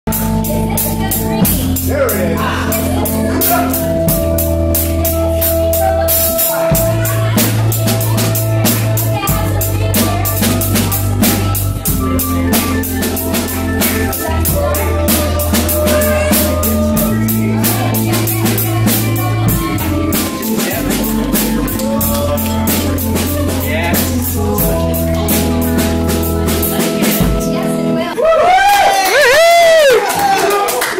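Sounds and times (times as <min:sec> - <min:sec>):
organ bass notes: 0:00.0 - 0:30.0
drum kit steady beat: 0:00.0 - 0:30.2.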